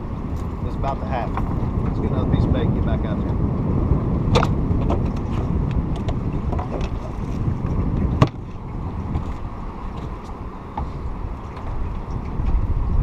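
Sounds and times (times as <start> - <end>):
boat engine rumble: 0.0 - 13.0.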